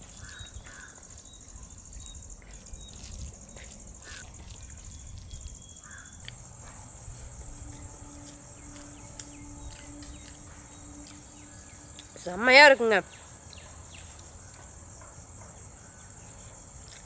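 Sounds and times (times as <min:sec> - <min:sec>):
crickets and insects droning: 0:00.0 - 0:17.0.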